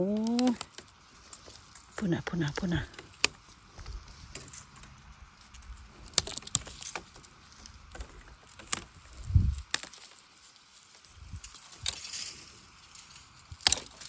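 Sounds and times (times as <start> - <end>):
bamboo snapping: 0.0 - 14.0
bamboo stems rustling and knocking: 0.0 - 14.0.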